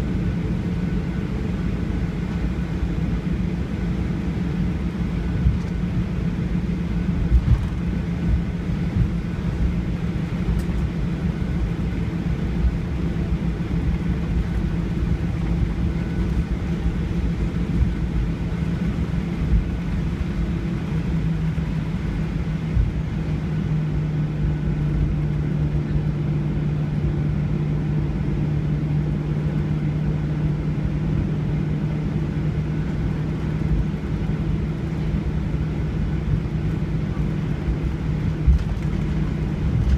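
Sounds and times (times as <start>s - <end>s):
constant low hum: 0.0s - 39.9s
jet airliner cabin rumble: 0.0s - 39.9s.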